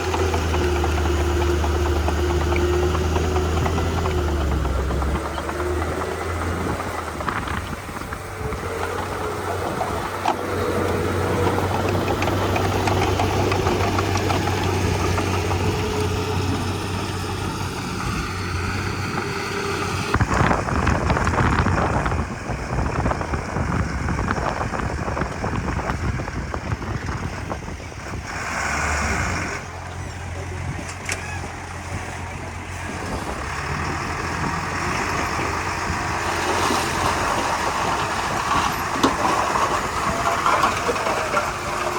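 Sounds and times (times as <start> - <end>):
bulldozer diesel engine running: 0.0 - 41.9
harsh clattering machinery: 0.0 - 41.9.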